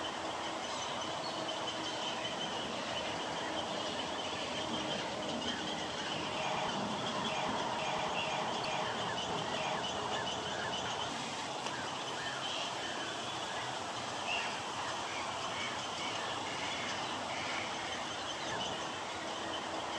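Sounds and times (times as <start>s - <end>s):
birds chirping and calling: 0.0s - 19.9s.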